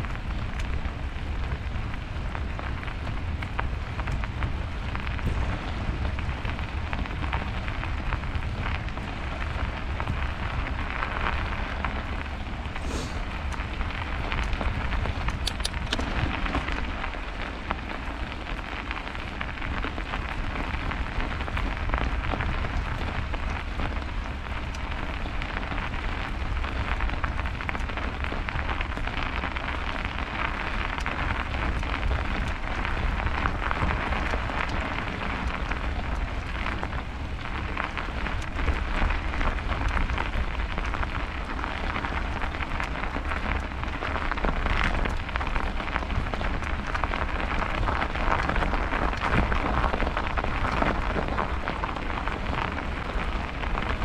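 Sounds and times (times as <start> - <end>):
bicycle tyres rolling on snow: 0.0 - 54.0
wind rumble on microphone: 0.0 - 54.0.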